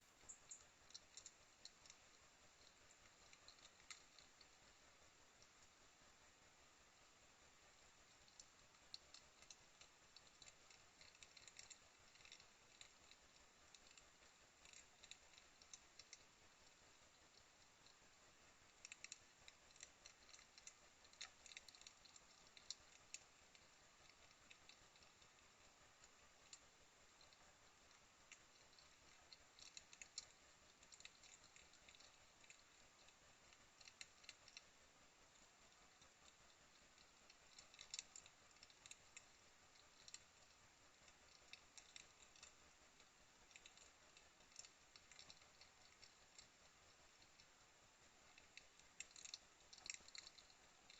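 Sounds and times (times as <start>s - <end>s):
low steady hiss: 0.0s - 50.9s
small crisp clicks and crunches: 0.1s - 6.5s, 7.6s - 50.9s.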